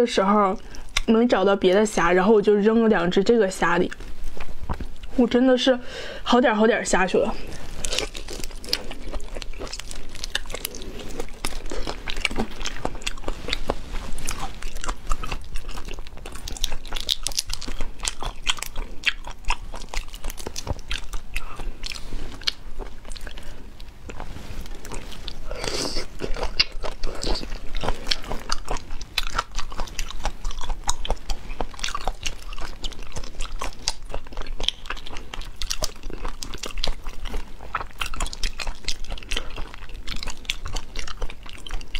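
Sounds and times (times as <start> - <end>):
crunching prawn shells: 7.4 - 41.9.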